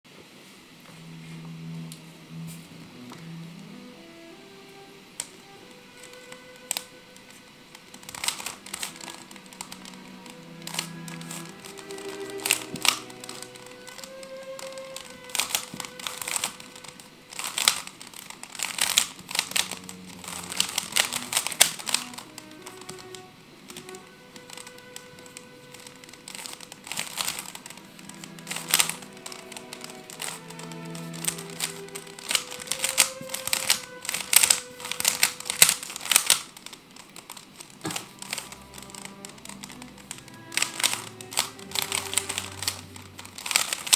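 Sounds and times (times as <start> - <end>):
puzzle cube clicking: 5.2 - 43.9.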